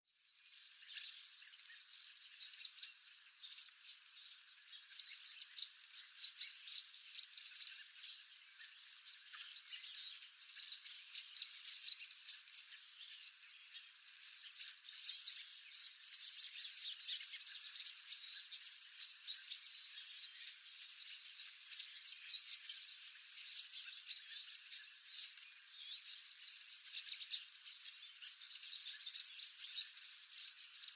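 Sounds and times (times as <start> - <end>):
many birds chirping: 0.1 - 30.9.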